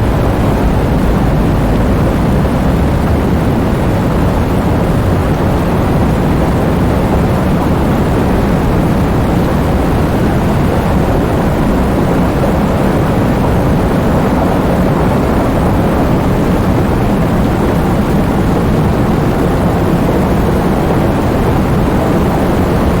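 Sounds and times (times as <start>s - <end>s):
heavy rain with strong wind: 0.0s - 23.0s.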